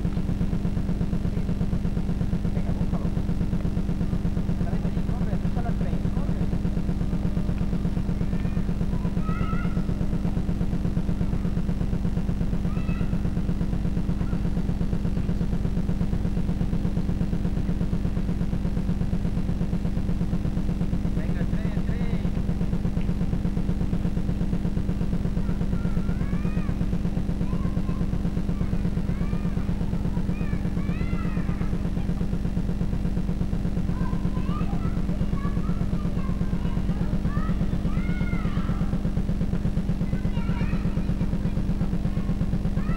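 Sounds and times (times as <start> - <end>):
pulsing electrical motor hum: 0.0 - 42.9.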